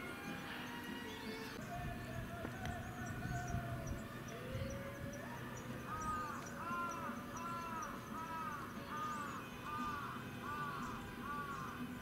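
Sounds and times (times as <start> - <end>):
bird calling clear notes: 0.5 - 12.0.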